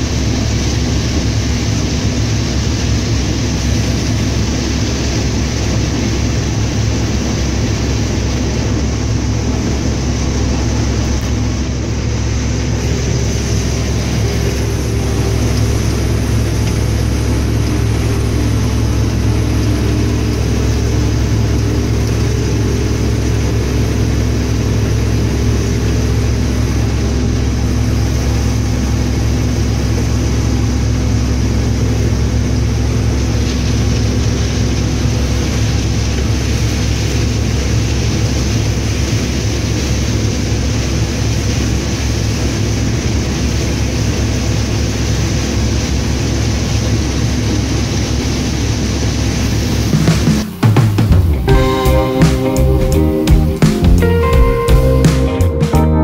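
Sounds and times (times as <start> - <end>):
combine engine and machinery drone: 0.0 - 56.0
steady humming tones: 0.0 - 56.0.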